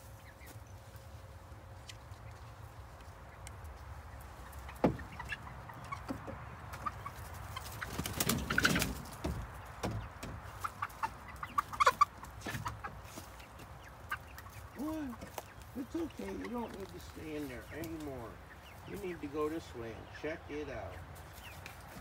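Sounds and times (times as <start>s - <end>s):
chickens clucking and peeping: 0.0s - 22.0s.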